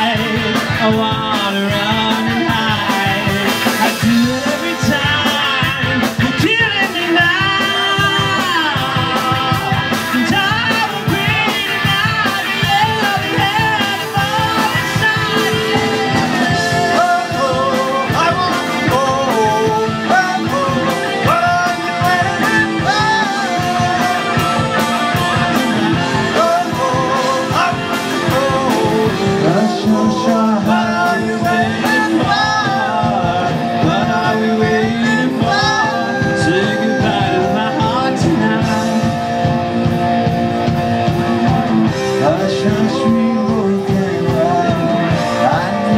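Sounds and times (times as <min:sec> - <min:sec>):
person singing: 0:00.0 - 0:39.6, 0:41.3 - 0:45.9
bass guitar: 0:00.0 - 0:45.9
drum kit: 0:00.0 - 0:45.9
electric guitars: 0:00.0 - 0:45.9.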